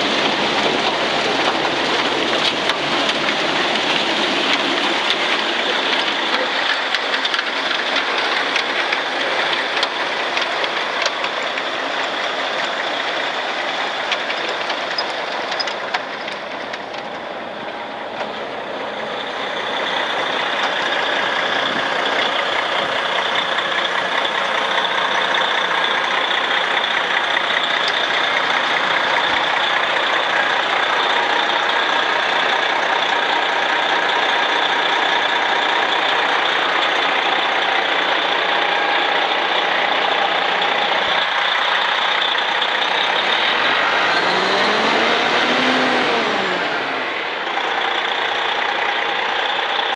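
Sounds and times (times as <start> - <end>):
truck diesel engine idling: 0.0 - 49.9.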